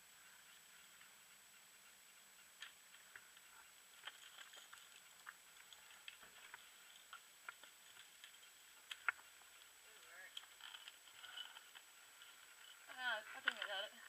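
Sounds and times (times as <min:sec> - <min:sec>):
faint clicks and ticks: 0:00.0 - 0:14.0.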